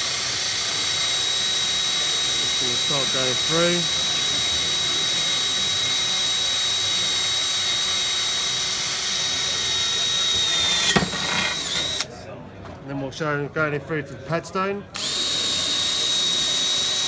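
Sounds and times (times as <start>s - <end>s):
drill grinding through metal: 0.0s - 12.1s, 15.0s - 17.0s.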